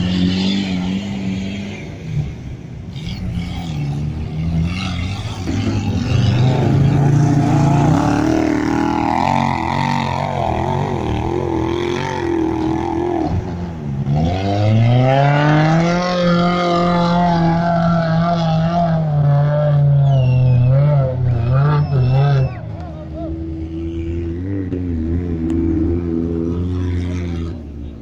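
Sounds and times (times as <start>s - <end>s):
racing car engine revving: 0.0s - 28.0s.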